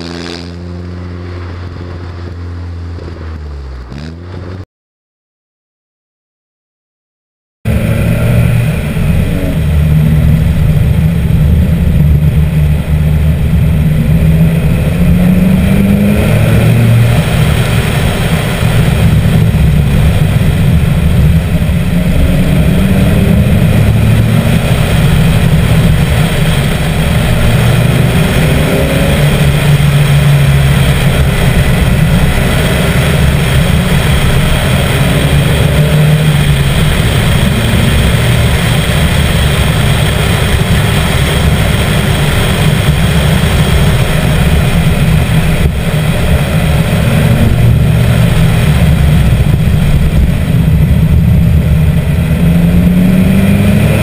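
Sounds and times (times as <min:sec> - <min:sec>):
car engine accelerating: 0:00.0 - 0:04.6, 0:07.7 - 0:54.0.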